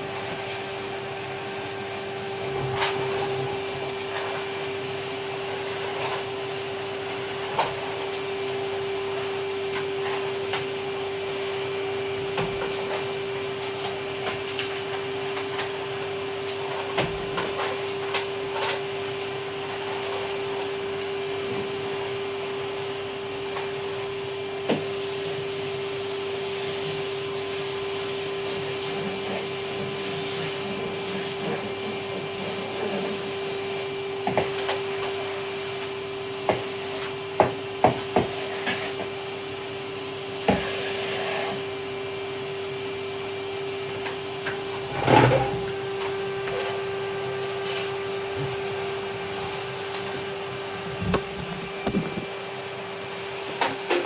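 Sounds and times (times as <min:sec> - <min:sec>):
vacuum cleaner humming: 0:00.0 - 0:54.0.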